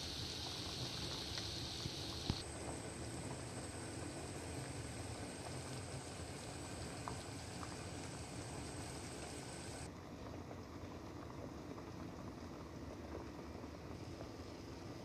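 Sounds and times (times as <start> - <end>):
pot simmering with bubbling hiss: 0.0 - 15.0.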